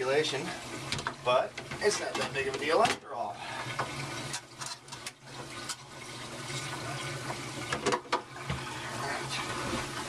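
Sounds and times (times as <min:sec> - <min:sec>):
aquarium water running: 0:00.0 - 0:10.0
low pump hum: 0:00.0 - 0:10.0.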